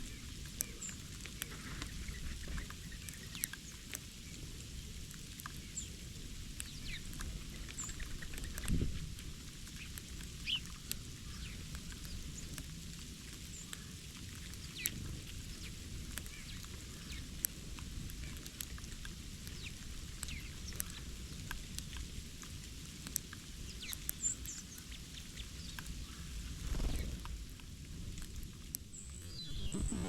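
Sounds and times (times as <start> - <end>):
small birds chirping: 0.0 - 27.6, 28.2 - 30.0.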